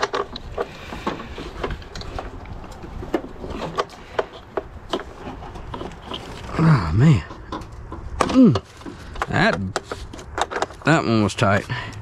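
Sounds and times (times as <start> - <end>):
hand tools clicking and knocking on metal: 0.0 - 12.0.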